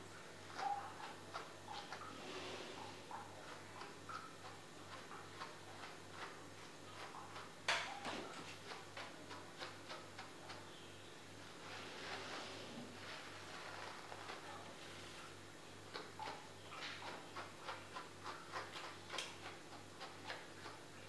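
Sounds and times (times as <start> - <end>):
faint ticking and light clicks: 0.0 - 2.2, 2.8 - 11.5, 13.6 - 21.0.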